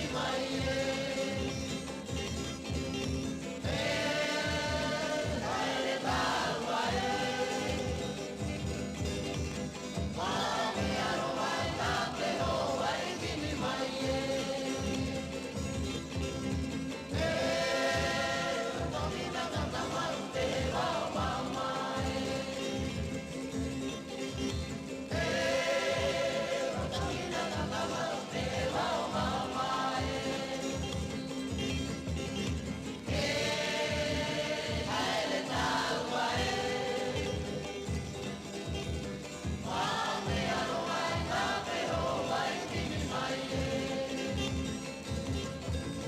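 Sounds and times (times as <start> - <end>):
music with choral singing: 0.0 - 46.0.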